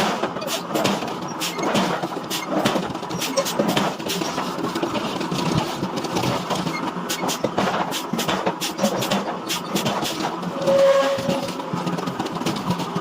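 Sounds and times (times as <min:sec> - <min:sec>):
heavy forging machinery running: 0:00.0 - 0:13.0.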